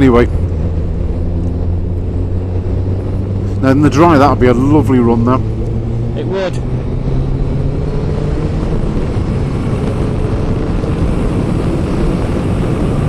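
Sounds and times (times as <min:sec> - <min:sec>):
wind rush: 0:00.0 - 0:13.0.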